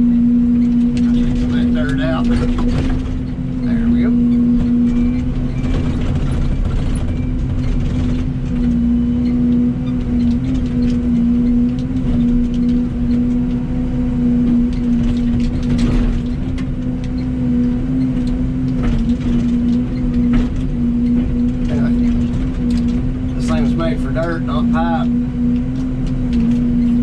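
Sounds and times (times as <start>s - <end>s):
excavator engine droning: 0.0s - 27.0s.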